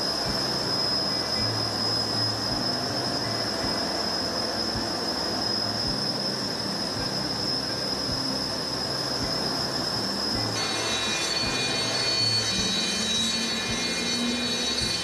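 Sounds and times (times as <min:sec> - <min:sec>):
constant rushing noise: 0:00.0 - 0:15.0
high-pitched whine: 0:00.0 - 0:15.0.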